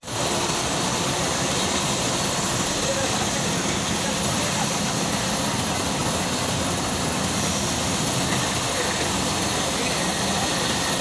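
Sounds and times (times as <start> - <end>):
diesel machinery engines droning: 0.0 - 11.0.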